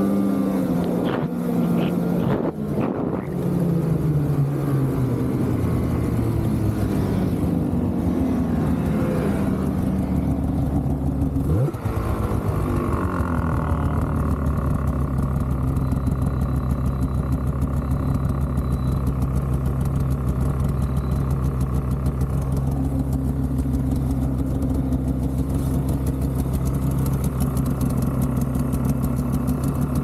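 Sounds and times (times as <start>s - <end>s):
snowmobile engine slowing down: 0.0s - 30.0s.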